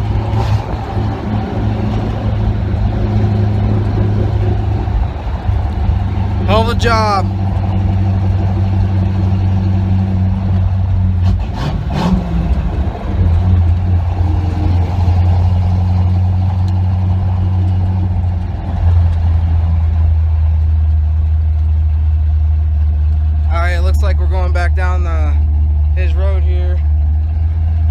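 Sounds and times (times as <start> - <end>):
truck exhaust deep drone: 0.0 - 27.9.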